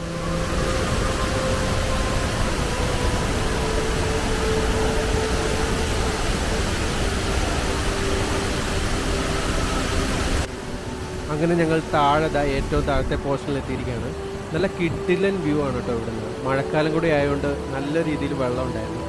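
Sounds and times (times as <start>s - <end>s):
faint background music: 0.0s - 19.0s
waterfall rushing: 0.0s - 19.0s.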